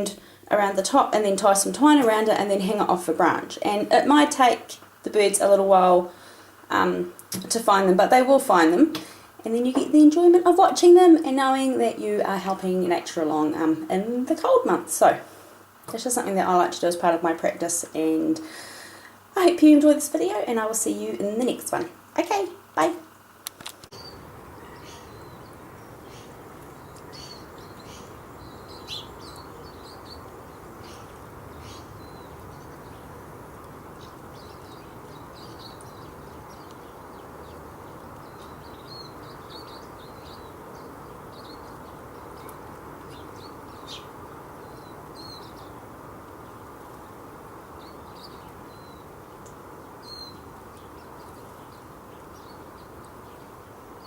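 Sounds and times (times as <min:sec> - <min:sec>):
outdoor background hiss: 0:00.0 - 0:54.0
small birds chirping: 0:00.0 - 0:54.0.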